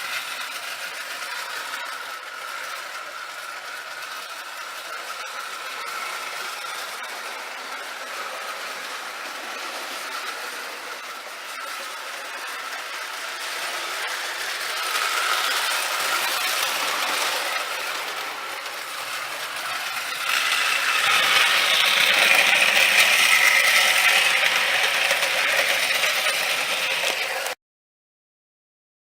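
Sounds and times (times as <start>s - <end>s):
toy train rattling on track: 0.0s - 27.6s.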